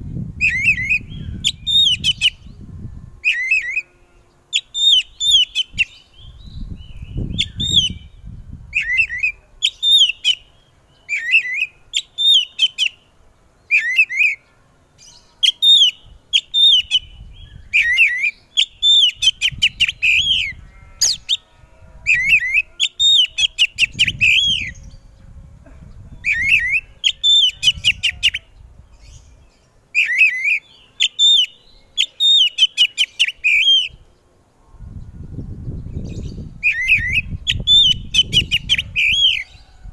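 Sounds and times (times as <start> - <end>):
bird singing whistles and chirps: 0.4 - 13.0, 13.7 - 14.4, 15.1 - 21.4, 22.1 - 25.2, 26.0 - 34.1, 35.3 - 39.8.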